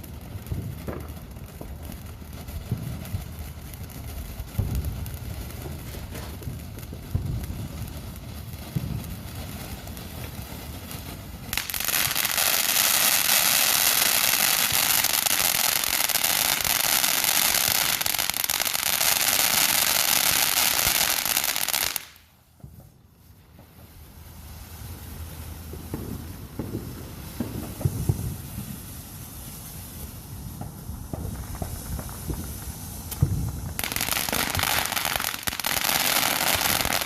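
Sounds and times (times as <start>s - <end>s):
firework crackling and hissing: 0.0s - 37.0s.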